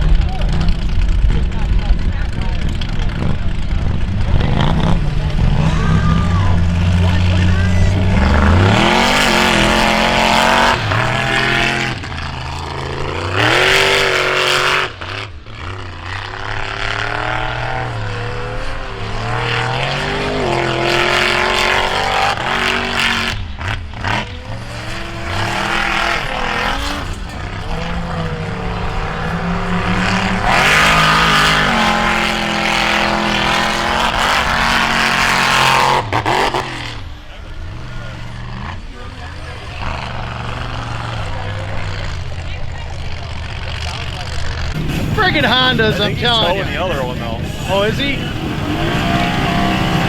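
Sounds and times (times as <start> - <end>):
truck engine revving: 0.0 - 50.0.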